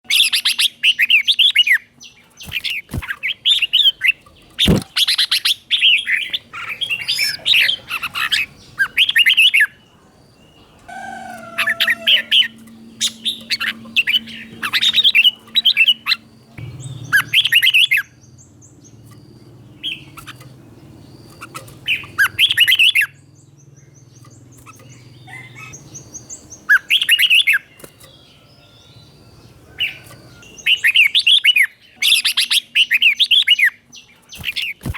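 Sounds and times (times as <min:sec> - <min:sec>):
bird singing warbled phrases: 0:00.0 - 0:34.9.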